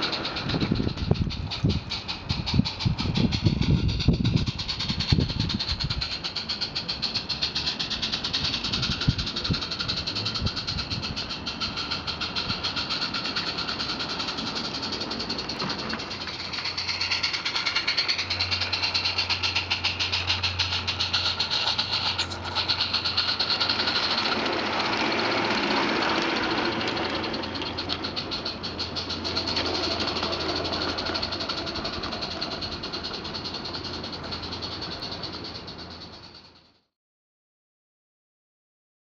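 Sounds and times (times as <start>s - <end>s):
small steam locomotive chuffing: 0.0s - 36.9s.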